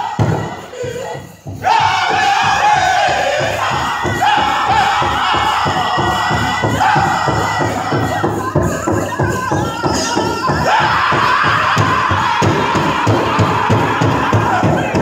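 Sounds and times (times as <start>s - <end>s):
group singing in high voices: 0.0s - 15.0s
steady drum beat: 0.0s - 15.0s.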